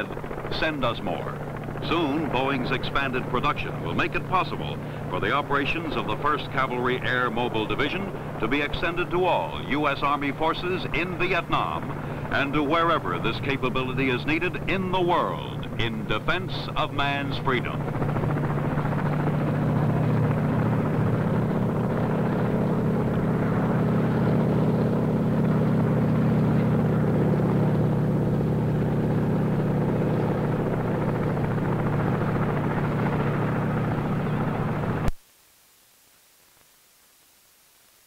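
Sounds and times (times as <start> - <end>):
helicopters in flight: 0.0 - 35.1.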